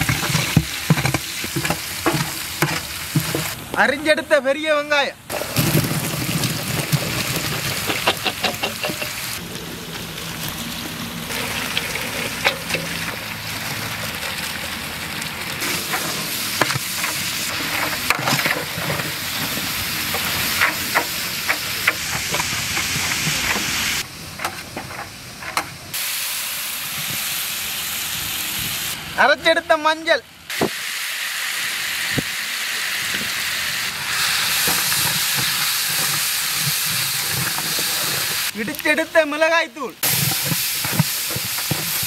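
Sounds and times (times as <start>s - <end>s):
onions sizzling in oil: 0.0s - 3.6s, 5.3s - 24.2s, 25.9s - 29.0s, 30.5s - 38.9s, 40.0s - 42.0s.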